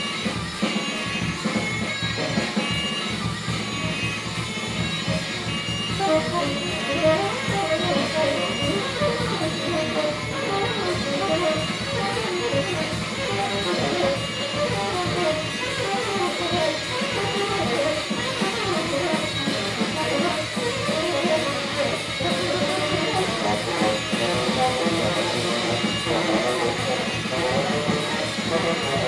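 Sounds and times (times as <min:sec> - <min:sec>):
drum kit played busily: 0:00.0 - 0:29.0
wandering melodic line: 0:00.2 - 0:29.0.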